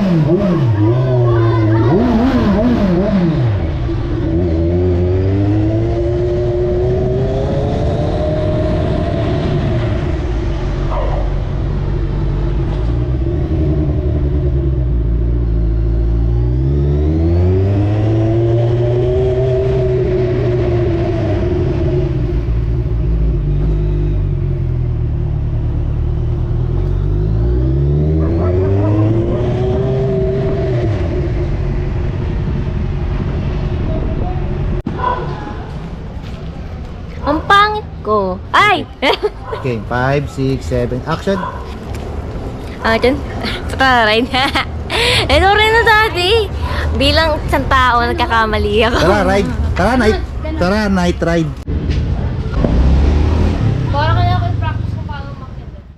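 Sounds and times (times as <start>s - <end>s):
motorcycle engine revving: 0.0s - 35.4s, 45.3s - 55.9s.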